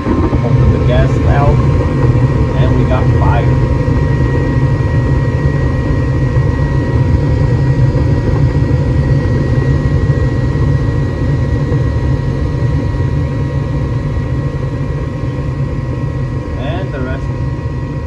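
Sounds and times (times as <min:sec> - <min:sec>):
faint steady whine: 0:00.0 - 0:18.0
furnace burners and fans rumbling: 0:00.0 - 0:18.0.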